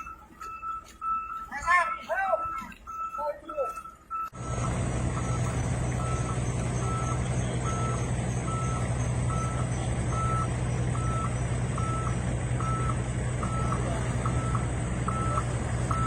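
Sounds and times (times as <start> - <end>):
diesel truck engine drone: 0.0 - 16.0
truck reversing alarm beeping: 0.0 - 16.0.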